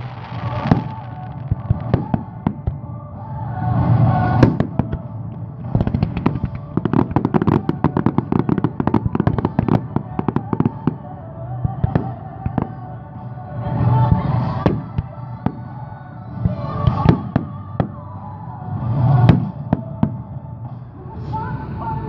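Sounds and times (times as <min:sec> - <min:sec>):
fireworks bangs and crackling: 0:00.0 - 0:02.9, 0:03.8 - 0:12.9, 0:13.7 - 0:18.1, 0:18.8 - 0:20.4
background music: 0:00.0 - 0:22.0.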